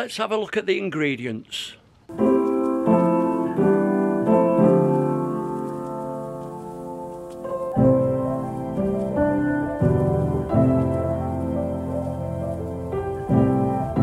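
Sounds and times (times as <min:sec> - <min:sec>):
piano chords: 0:02.1 - 0:14.0.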